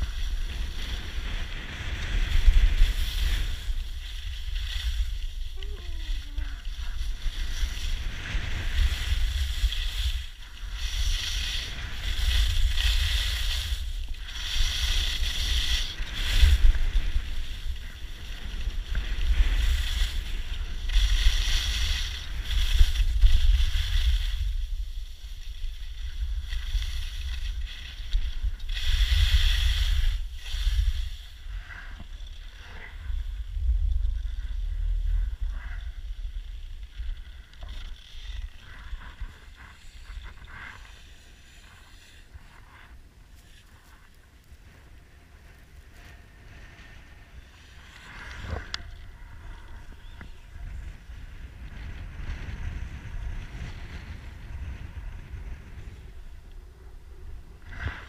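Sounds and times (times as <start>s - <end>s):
skis scraping over snow: 0.0s - 58.0s
wind rumbling on microphone: 0.0s - 58.0s.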